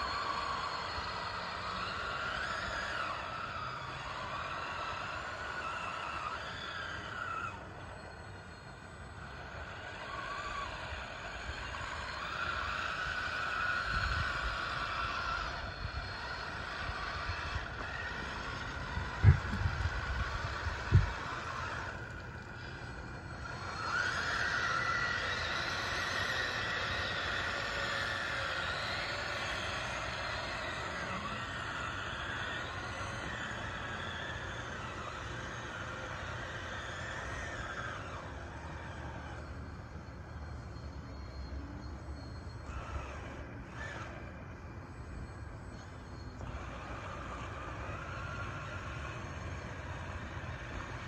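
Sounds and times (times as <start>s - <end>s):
electric motors whining: 0.0s - 51.0s.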